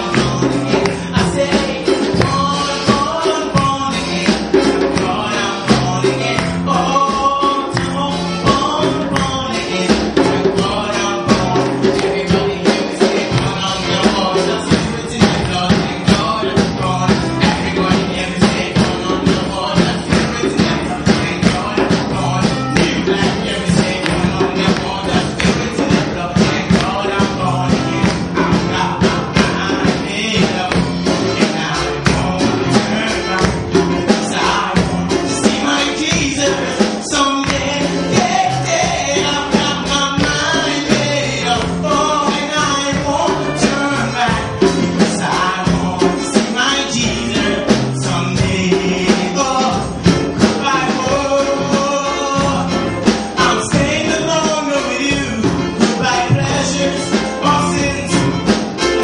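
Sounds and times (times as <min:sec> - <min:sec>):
gospel music with singing: 0:00.0 - 0:59.0.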